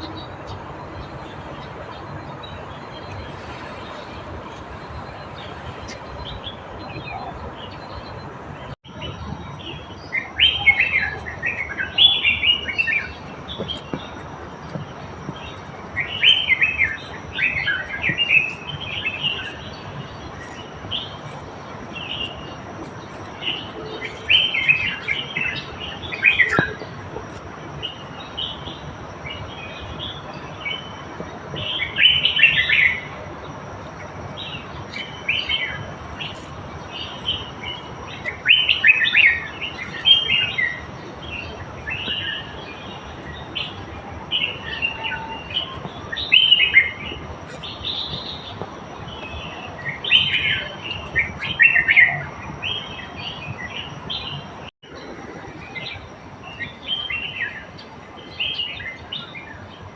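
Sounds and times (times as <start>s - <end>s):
songbirds chirping: 0.0s - 59.9s
thin high whine: 0.0s - 59.9s.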